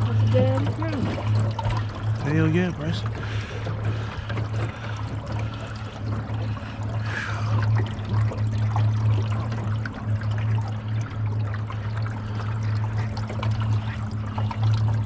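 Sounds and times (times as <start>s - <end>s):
small boat motor running: 0.0s - 15.0s
water splashing and trickling: 0.0s - 15.0s.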